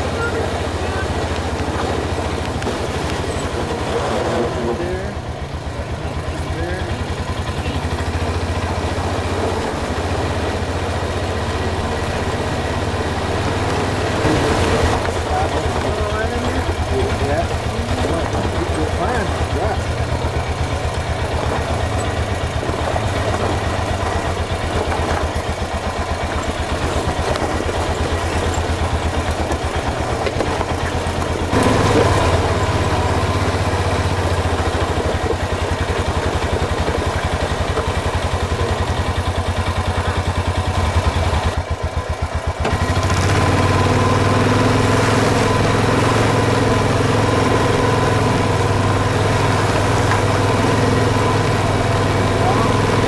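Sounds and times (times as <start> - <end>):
quad engine running: 0.0 - 53.0.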